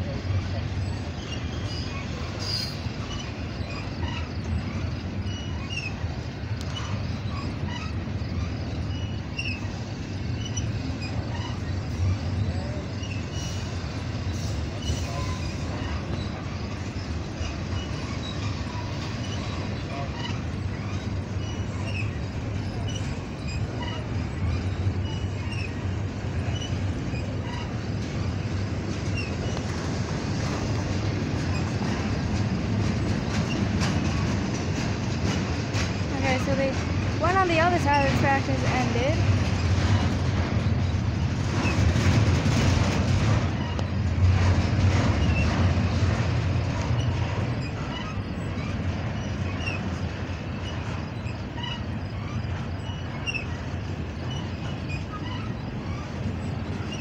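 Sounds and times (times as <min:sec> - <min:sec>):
freight train wheels rumbling: 0:00.0 - 0:57.0
short high wheel squeaks: 0:00.0 - 0:57.0.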